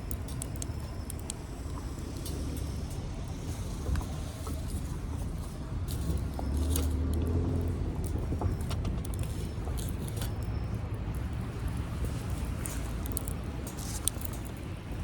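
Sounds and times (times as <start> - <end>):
steady low rumble: 0.0 - 15.0
wood fire crackling: 0.0 - 15.0.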